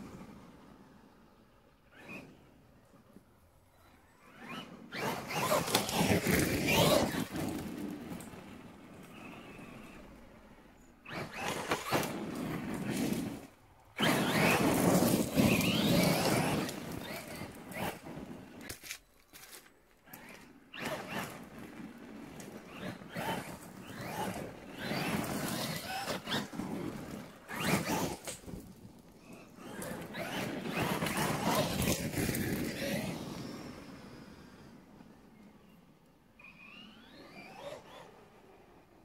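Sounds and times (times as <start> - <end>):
toy truck tyres on gravel: 0.0 - 39.0.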